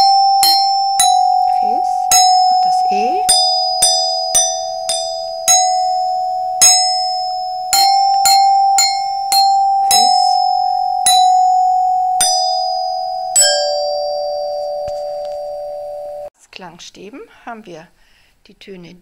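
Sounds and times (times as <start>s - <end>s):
glockenspiel melody: 0.0s - 16.3s.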